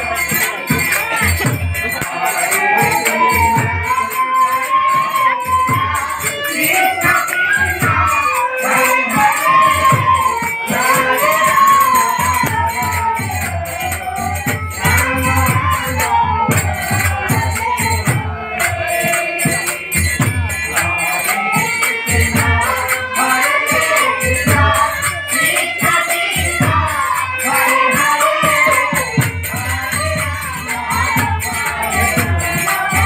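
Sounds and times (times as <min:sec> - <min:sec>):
drum beats: 0:00.0 - 0:04.4, 0:05.0 - 0:33.0
jingling percussion: 0:00.0 - 0:33.0
person singing: 0:00.0 - 0:33.0.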